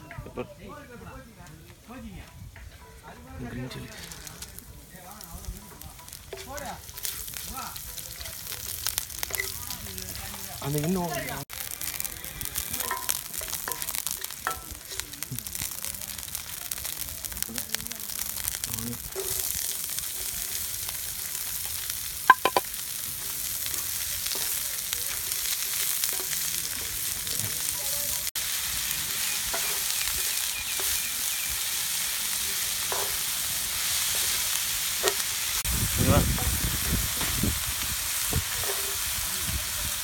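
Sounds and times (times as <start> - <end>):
onions sizzling in hot oil: 2.8 - 40.0
spatula stirring and scraping pan: 3.7 - 35.7, 36.3 - 39.6.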